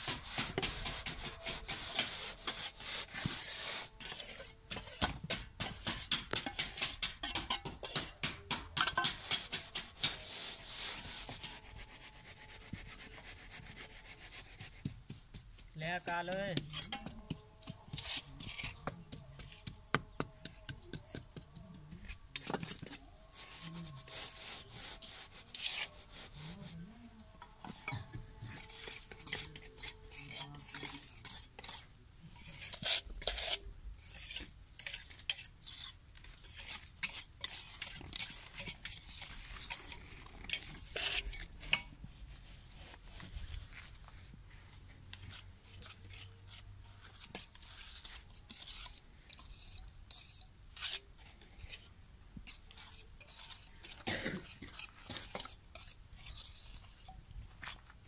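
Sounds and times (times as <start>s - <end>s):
trowel scraping concrete: 0.0s - 15.7s, 16.6s - 43.8s, 45.2s - 58.0s.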